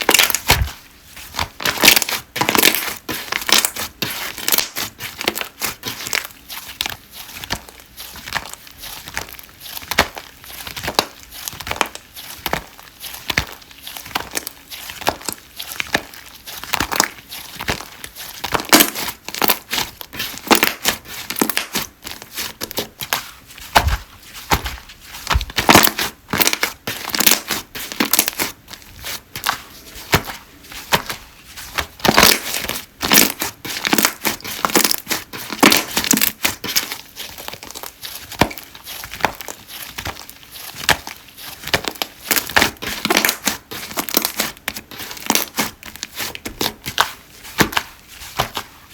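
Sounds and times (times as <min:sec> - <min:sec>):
slime squished by hand: 0:00.0 - 0:48.9.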